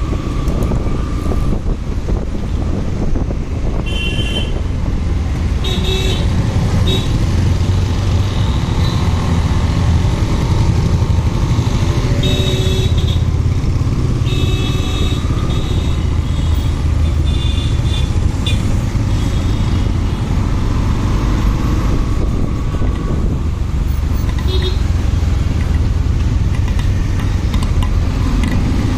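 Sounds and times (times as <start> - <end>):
motorcycle engine rumble: 0.0 - 28.9
wind and road noise: 0.0 - 28.9.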